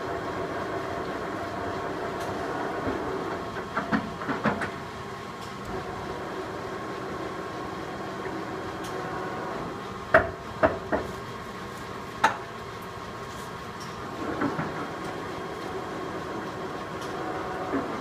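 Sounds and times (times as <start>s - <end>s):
lathe running with steady hum: 0.0s - 18.0s.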